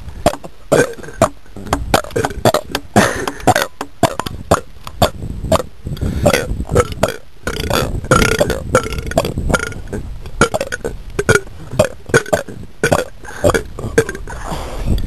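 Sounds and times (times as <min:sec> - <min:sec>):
person belching: 0:00.2 - 0:14.4.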